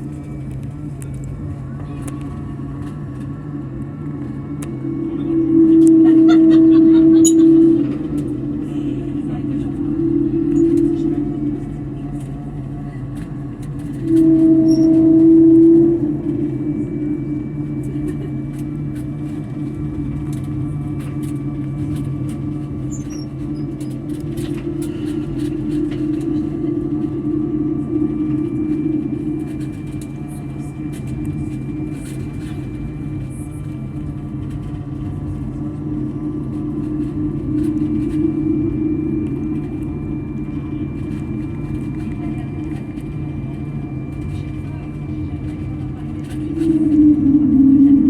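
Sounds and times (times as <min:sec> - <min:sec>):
aircraft cabin drone: 0:00.0 - 0:48.0
loud steady hum: 0:00.0 - 0:48.0.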